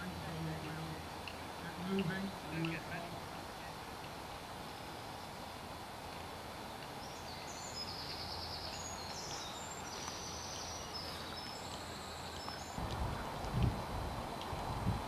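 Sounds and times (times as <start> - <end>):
small birds chirping: 0.0 - 13.4
outdoor background noise: 0.0 - 15.0.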